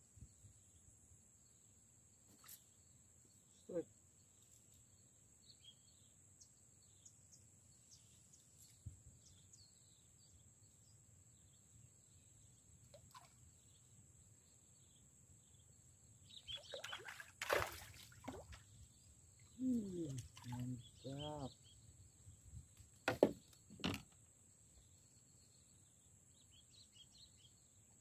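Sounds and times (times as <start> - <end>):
small birds chirping: 0.2 - 28.0.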